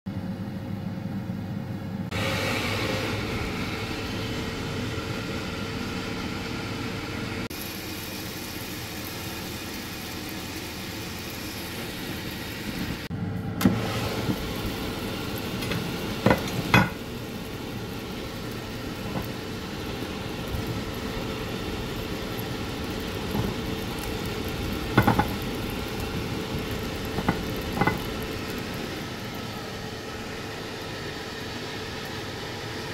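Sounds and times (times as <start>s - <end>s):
air fryer fan whirring: 0.1s - 32.9s.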